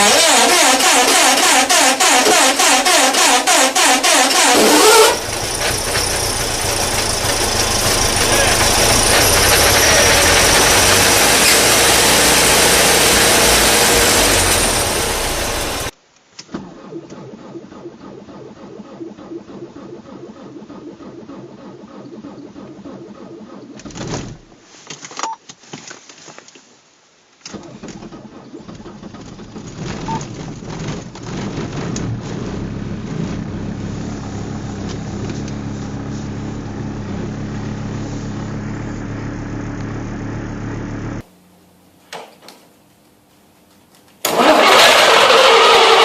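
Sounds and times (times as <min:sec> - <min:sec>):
second engine starting: 0:00.0 - 0:15.9, 0:16.6 - 0:24.0, 0:27.5 - 0:41.2, 0:44.2 - 0:46.0
big engine starting and running: 0:00.0 - 0:16.0, 0:16.6 - 0:24.0, 0:27.6 - 0:41.3, 0:44.2 - 0:46.0.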